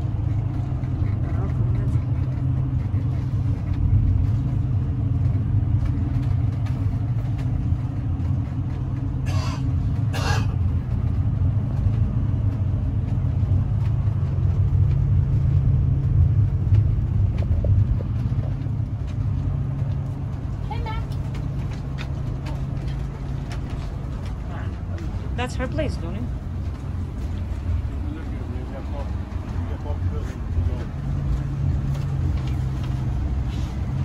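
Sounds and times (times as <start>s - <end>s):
vehicle engine and road rumble: 0.0s - 34.0s.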